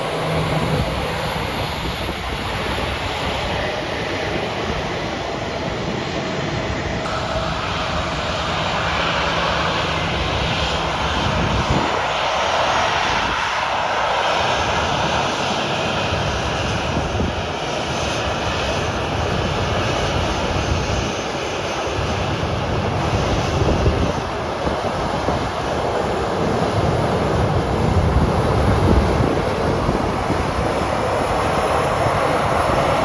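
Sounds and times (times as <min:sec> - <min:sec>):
jet engines rushing: 0:00.0 - 0:33.0
wind buffeting microphone: 0:00.0 - 0:33.0.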